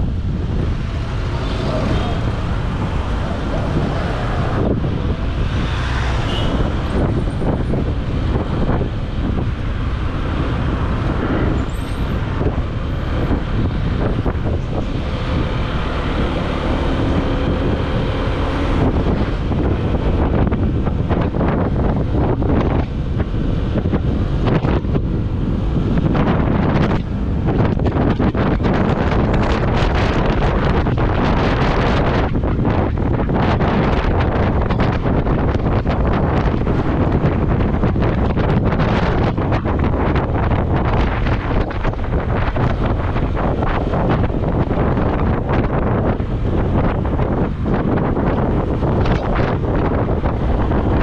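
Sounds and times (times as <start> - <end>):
traffic noise: 0.0 - 51.0
wind buffeting on microphone: 0.0 - 51.0.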